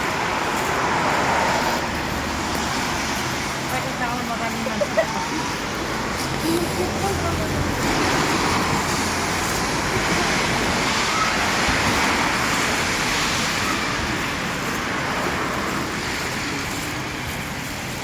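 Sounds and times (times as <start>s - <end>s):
tyres hissing on wet pavement: 0.0s - 18.0s.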